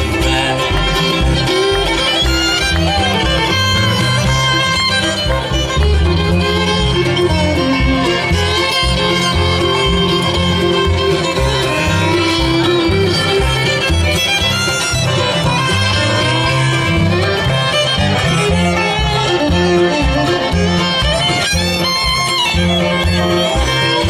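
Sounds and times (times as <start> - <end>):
bluegrass band playing live: 0.0 - 24.0
fiddle: 0.0 - 24.0.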